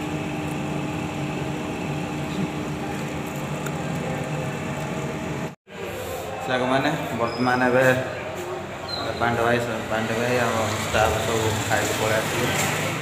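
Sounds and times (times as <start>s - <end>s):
electric fan whirring: 0.0s - 13.0s.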